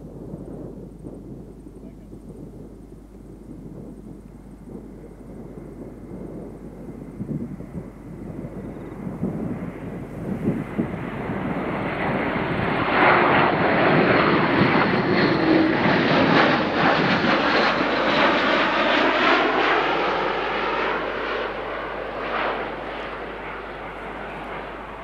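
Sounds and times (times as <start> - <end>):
turboprop aircraft engine drone: 0.0 - 25.0.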